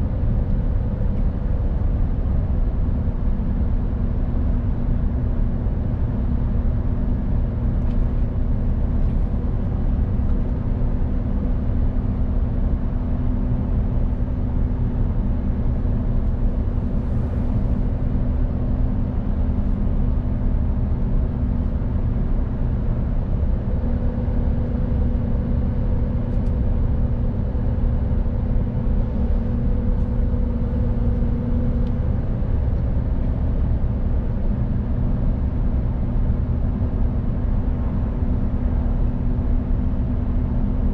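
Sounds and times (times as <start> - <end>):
truck diesel engine drone: 0.0 - 40.9.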